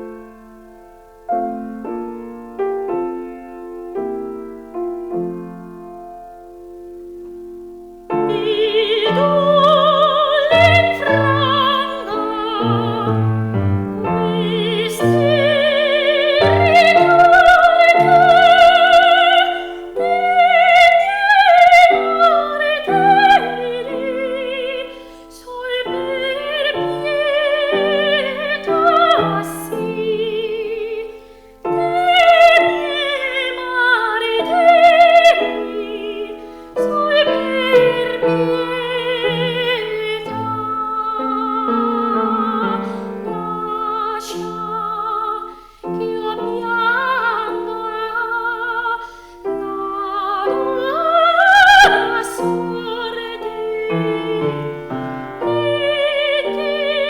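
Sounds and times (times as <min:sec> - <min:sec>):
piano accompaniment: 0:00.0 - 0:57.0
operatic singing: 0:08.1 - 0:57.0.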